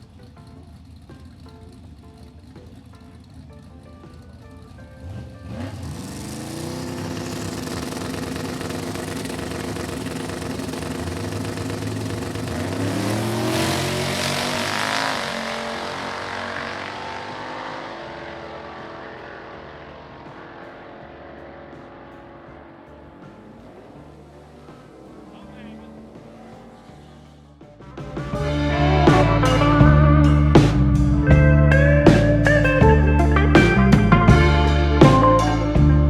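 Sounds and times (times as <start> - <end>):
drag truck engine revving: 4.9 - 36.0.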